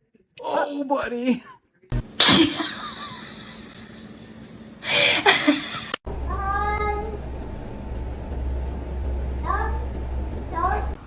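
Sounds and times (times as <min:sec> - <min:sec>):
steady low hum: 0:01.9 - 0:11.0.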